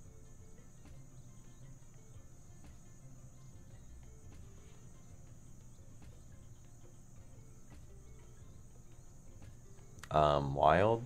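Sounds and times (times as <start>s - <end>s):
cricket-like chirring: 0.0s - 10.6s.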